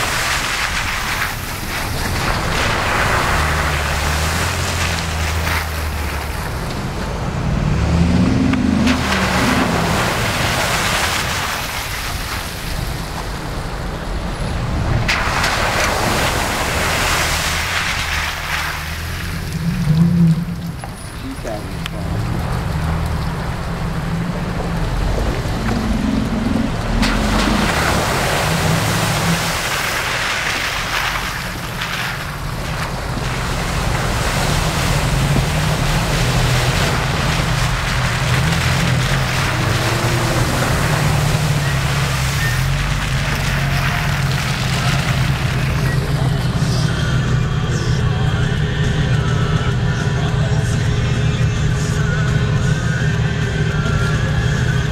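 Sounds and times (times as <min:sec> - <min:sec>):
water splashing: 0:00.0 - 0:49.8
car engine running: 0:00.0 - 0:54.9.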